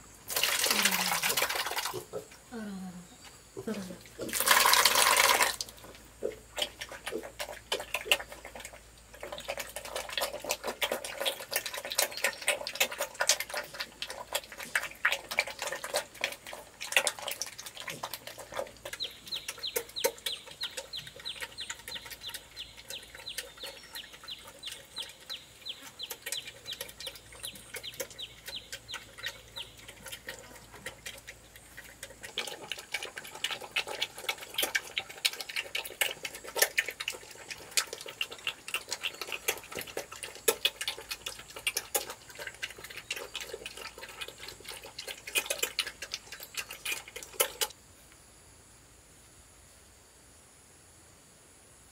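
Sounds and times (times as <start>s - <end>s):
piglets eating wet mash: 0.0s - 2.5s, 3.6s - 47.8s.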